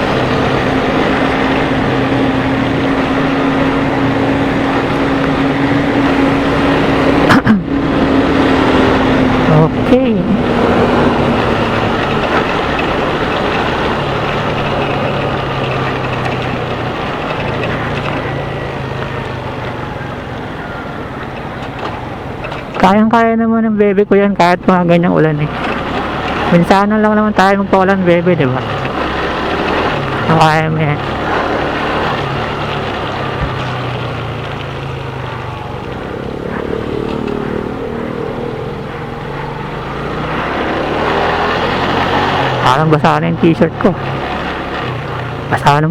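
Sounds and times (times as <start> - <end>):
tyres hissing on wet road: 0.0 - 22.8, 25.4 - 45.6
motorcycle engine running: 0.0 - 23.1, 24.4 - 45.9.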